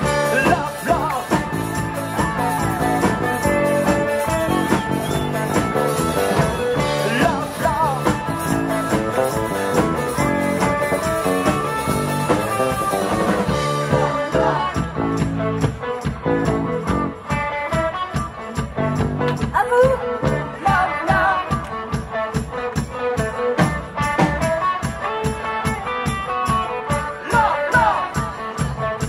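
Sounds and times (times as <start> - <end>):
bass: 0.0 - 29.0
electric guitar: 0.0 - 29.0
steady drum beat: 0.0 - 29.0.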